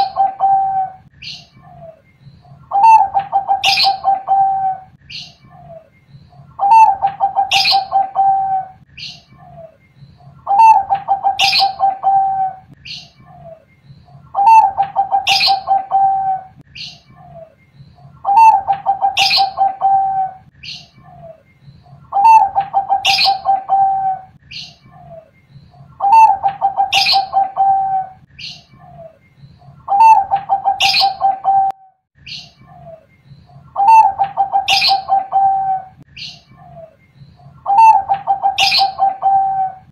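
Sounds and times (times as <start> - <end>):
dove cooing: 0.0 - 31.9, 32.6 - 39.9.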